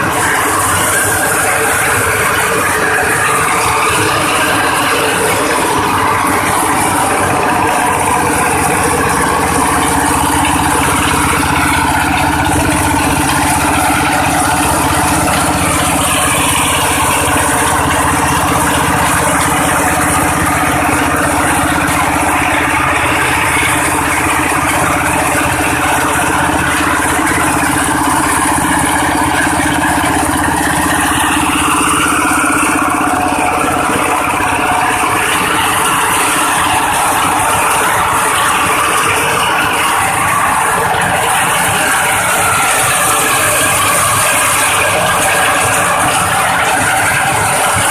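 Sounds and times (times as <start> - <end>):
corn sheller machine rattling: 0.0 - 47.9.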